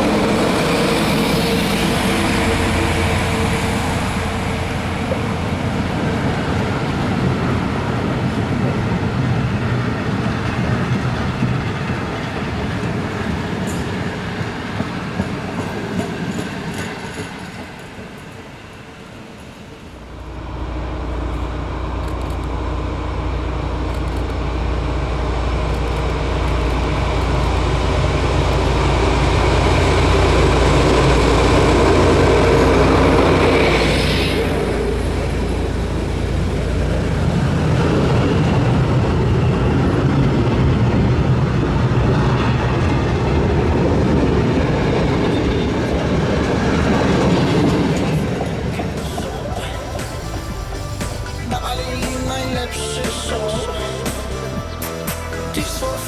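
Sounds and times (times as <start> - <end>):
diesel locomotive engine drone: 0.0 - 56.0
train carriages rolling past: 0.0 - 56.0.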